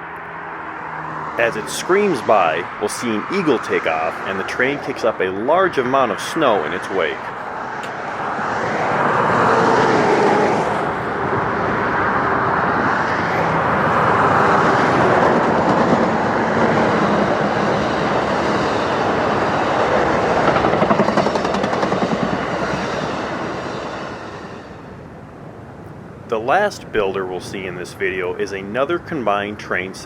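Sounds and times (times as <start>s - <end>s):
train passing at speed: 0.0s - 30.0s.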